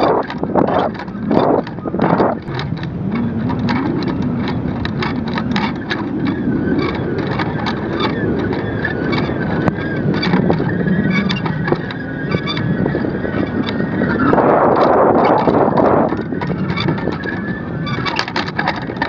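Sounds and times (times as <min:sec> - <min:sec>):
wind rushing: 0:00.0 - 0:17.9
sharp rattling clicks: 0:00.0 - 0:19.0.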